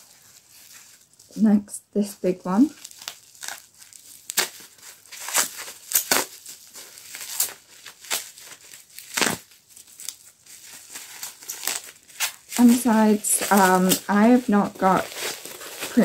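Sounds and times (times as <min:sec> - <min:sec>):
bubble wrap crackling: 0:00.0 - 0:16.0.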